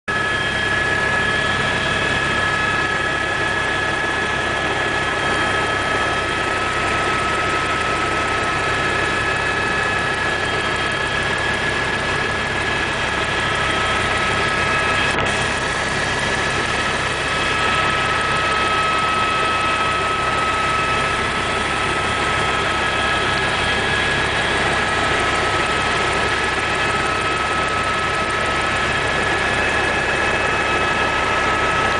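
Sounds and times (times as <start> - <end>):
helicopter engine and rotor noise: 0.1 - 31.9
high even whine: 0.1 - 31.9.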